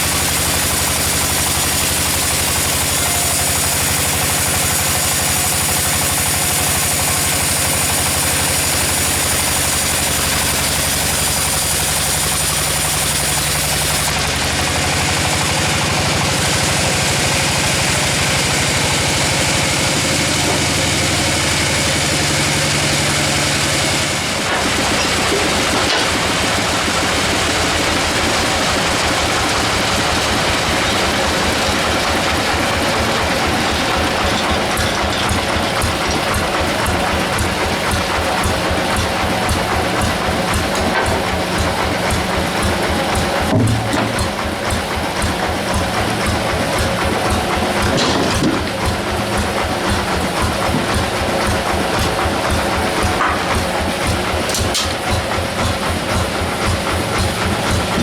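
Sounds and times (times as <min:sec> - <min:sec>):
sawmill saw running: 0:00.0 - 0:58.0.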